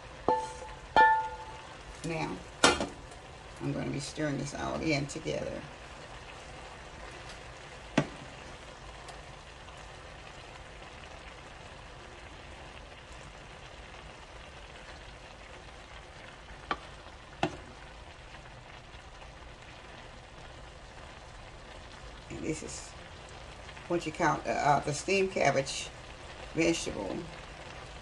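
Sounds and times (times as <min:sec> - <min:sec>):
food sizzling in a pot: 0:00.0 - 0:28.0.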